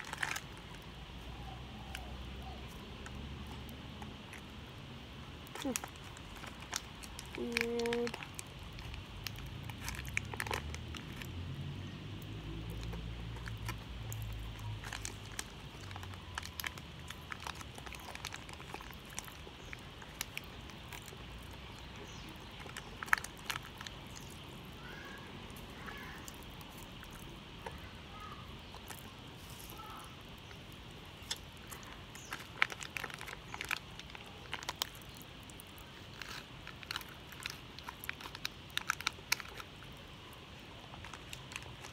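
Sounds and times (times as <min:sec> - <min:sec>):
plastic candy wrapper crinkling: 0:00.0 - 0:41.9.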